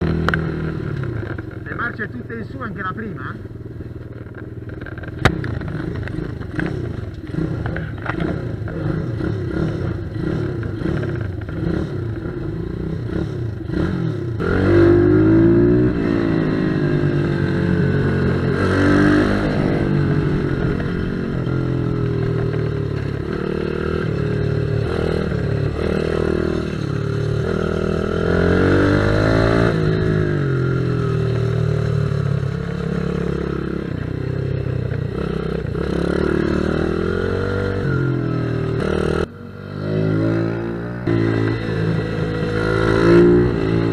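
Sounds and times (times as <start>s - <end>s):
pit bike engines revving: 0.0s - 43.9s.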